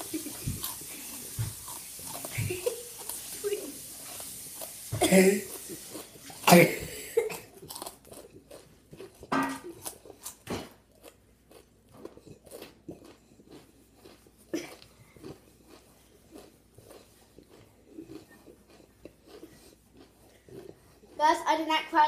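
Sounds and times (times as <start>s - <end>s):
man crunching chips: 0.0s - 21.2s.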